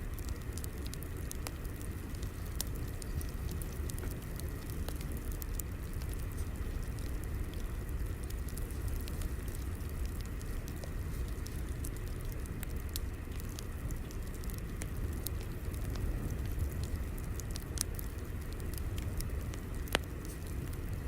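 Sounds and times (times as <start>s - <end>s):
burning wood crackling and popping: 0.0s - 21.0s
fire burning with crackles: 0.0s - 21.0s.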